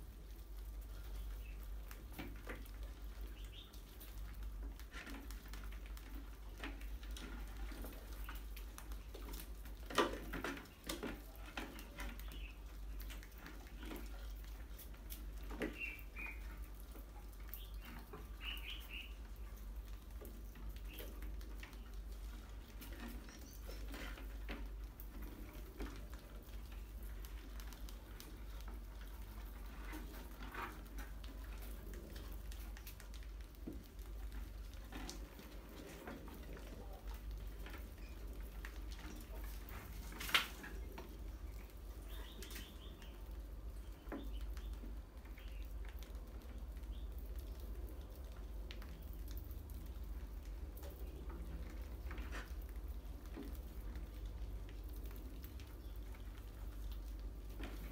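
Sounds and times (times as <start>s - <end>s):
rats scurrying and scratching: 0.0s - 57.9s.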